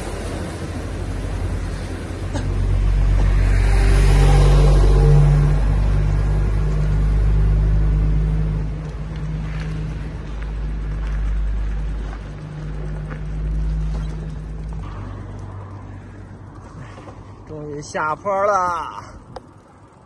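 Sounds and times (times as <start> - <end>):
diesel trucks passing: 0.0 - 20.0.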